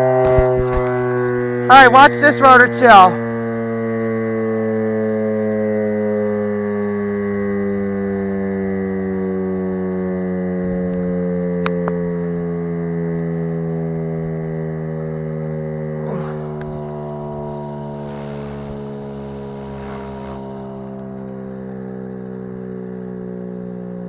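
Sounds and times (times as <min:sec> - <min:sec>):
warning siren winding down: 0:00.0 - 0:24.0.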